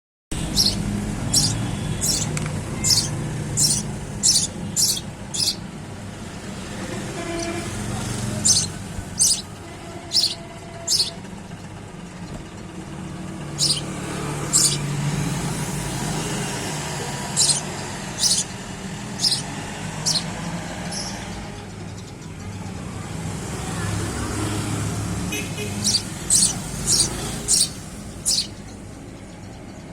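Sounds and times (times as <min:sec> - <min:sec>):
low traffic rumble: 0:00.3 - 0:29.9
sparrow chirping: 0:00.4 - 0:11.3, 0:13.4 - 0:22.4, 0:25.2 - 0:29.9.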